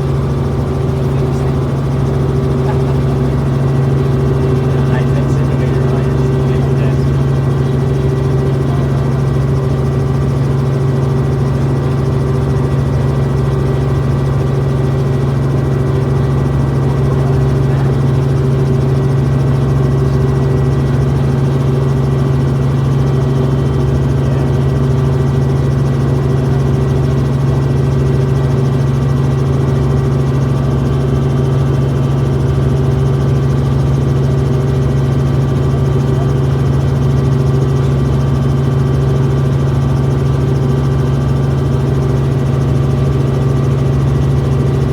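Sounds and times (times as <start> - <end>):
helicopter cabin hum: 0.0 - 44.9.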